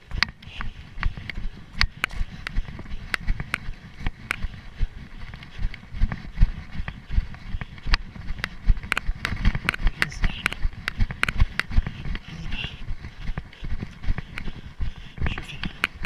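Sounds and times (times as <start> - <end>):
sharp clicks and rustles: 0.0 - 16.0.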